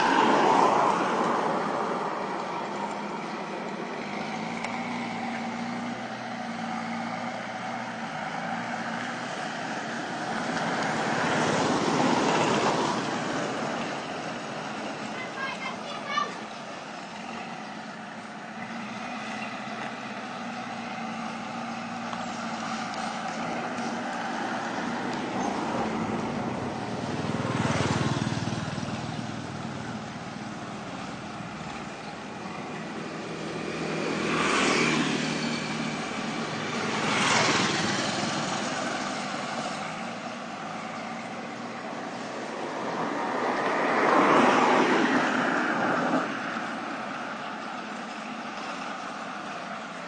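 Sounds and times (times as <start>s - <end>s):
background traffic noise: 0.0s - 50.0s
vehicles passing: 0.0s - 50.0s.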